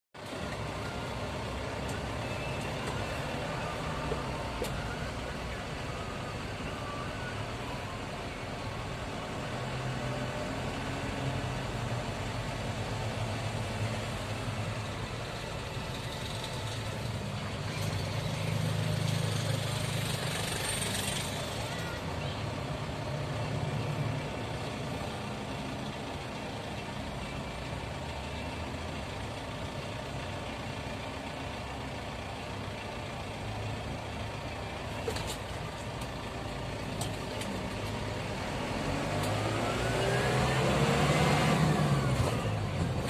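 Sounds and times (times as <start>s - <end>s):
traffic rumble: 0.2s - 43.0s.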